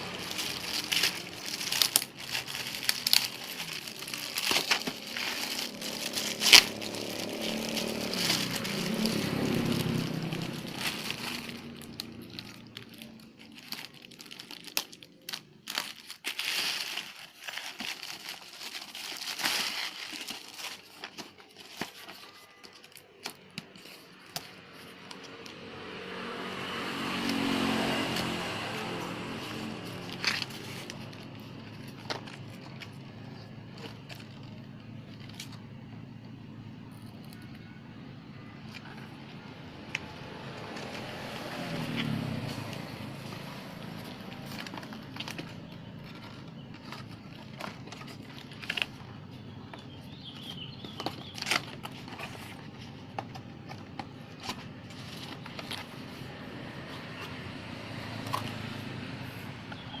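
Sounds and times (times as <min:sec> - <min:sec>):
plastic packaging crinkling: 0:00.0 - 0:25.4, 0:27.0 - 0:57.4.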